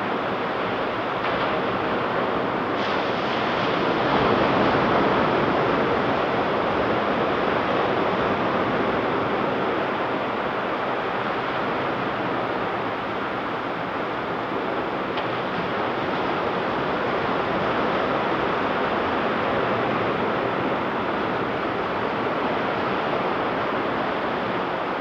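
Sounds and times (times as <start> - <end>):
ocean waves breaking on beach: 1.3 - 25.0.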